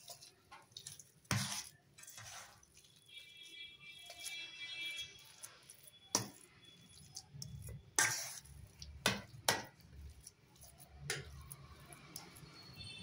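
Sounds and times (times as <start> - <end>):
spoon scraping through mixture: 0.0 - 13.0.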